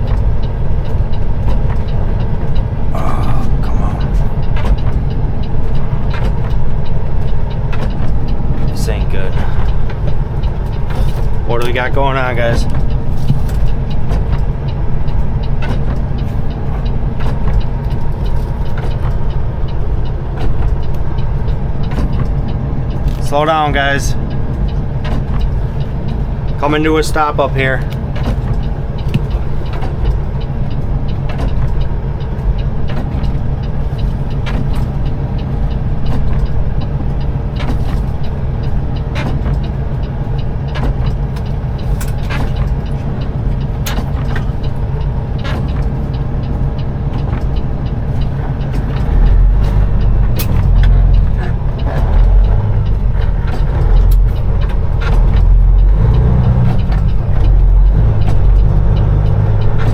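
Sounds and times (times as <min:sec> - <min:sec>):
diesel truck engine at low revs: 0:00.0 - 0:59.9.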